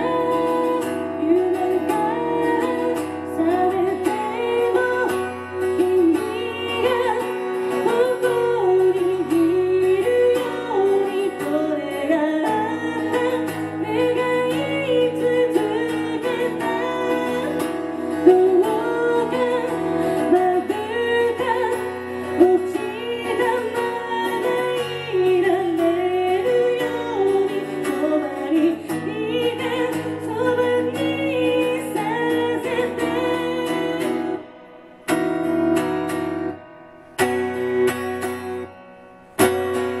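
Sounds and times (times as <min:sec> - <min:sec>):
woman singing: 0:00.0 - 0:36.6
acoustic guitar: 0:00.0 - 0:40.0.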